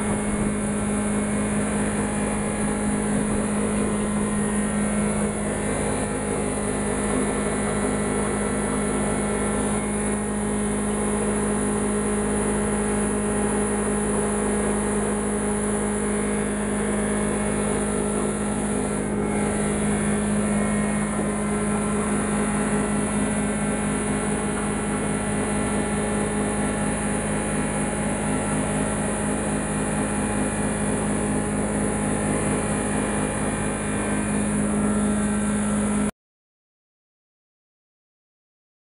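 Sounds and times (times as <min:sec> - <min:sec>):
wood shredder machine humming: 0:00.0 - 0:36.1.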